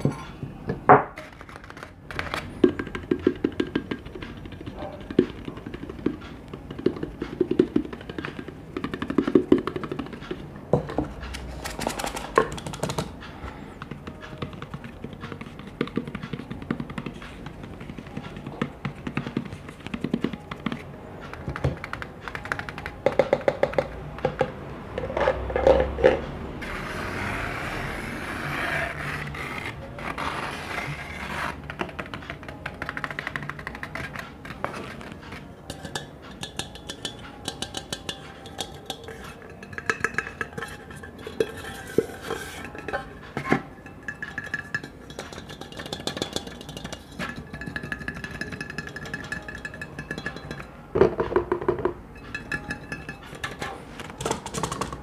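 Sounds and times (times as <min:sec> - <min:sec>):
tapping on hard objects: 0:00.0 - 0:13.2, 0:13.8 - 0:26.2, 0:31.7 - 0:55.0.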